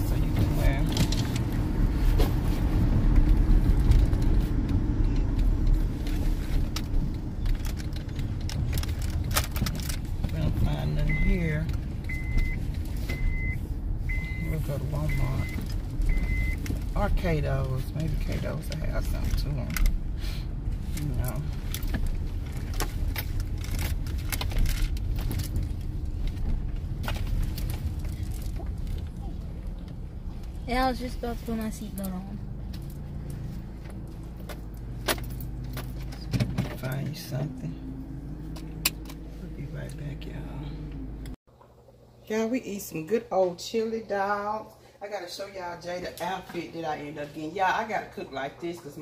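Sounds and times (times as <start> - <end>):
car engine and road rumble: 0.0 - 49.0.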